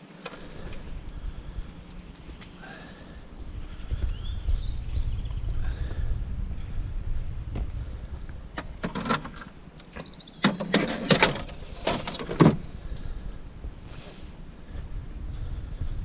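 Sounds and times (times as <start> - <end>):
wind rumble on microphone: 0.4 - 9.8, 12.5 - 16.0.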